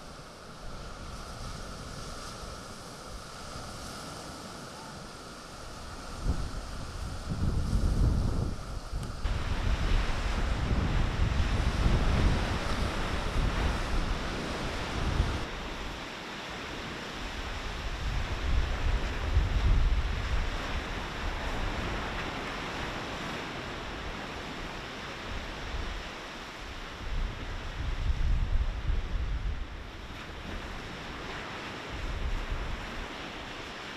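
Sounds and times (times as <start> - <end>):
wind buffeting microphone: 0.0 - 16.0, 16.6 - 33.7
surf washing onto beach: 0.0 - 33.9.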